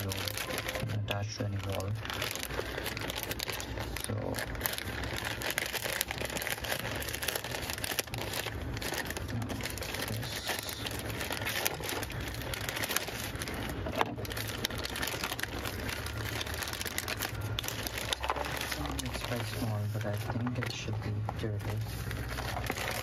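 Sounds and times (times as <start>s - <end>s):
plastic mailer crinkling: 0.0s - 23.0s.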